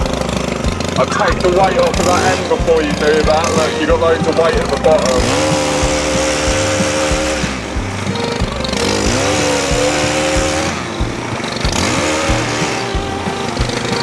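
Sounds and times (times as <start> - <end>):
chainsaw cutting and revving: 0.0 - 14.0
machine engine running: 0.0 - 14.0.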